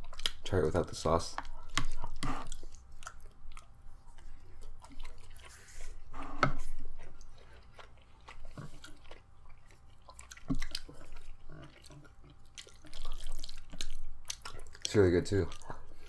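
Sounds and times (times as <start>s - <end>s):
chewing and mouth sounds: 0.0s - 16.0s.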